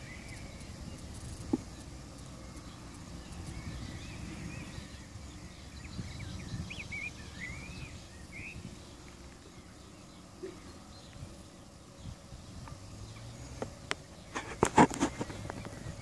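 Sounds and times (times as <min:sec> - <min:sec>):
bird chirping: 0:00.0 - 0:16.0
wind rumbling on microphone: 0:00.0 - 0:16.0.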